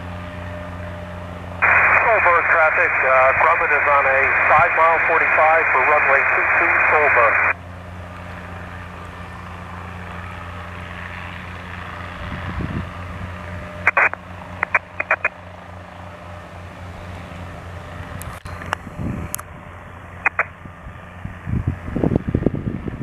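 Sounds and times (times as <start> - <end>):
helicopter hovering: 0.0 - 23.0
piston aircraft droning: 0.0 - 23.0.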